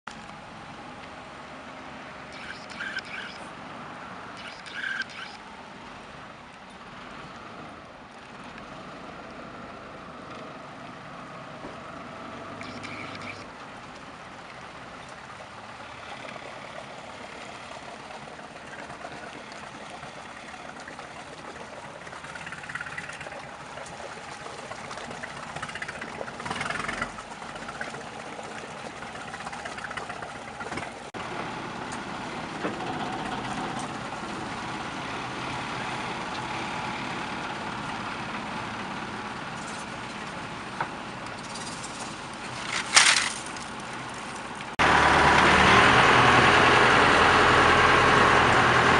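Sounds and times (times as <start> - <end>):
boat engine running: 0.1 - 48.9.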